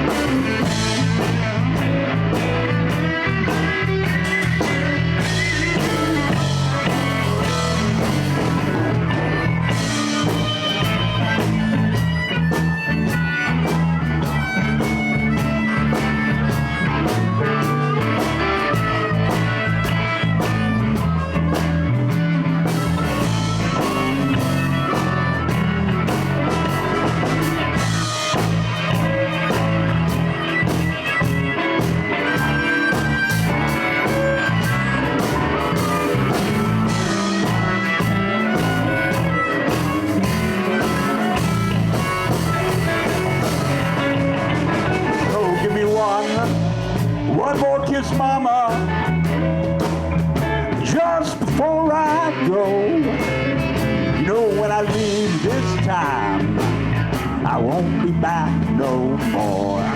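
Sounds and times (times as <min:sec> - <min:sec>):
bass: 0:00.0 - 0:59.9
drum kit: 0:00.0 - 0:59.9
electric guitar: 0:00.0 - 0:59.9
harmonica: 0:00.0 - 0:59.9.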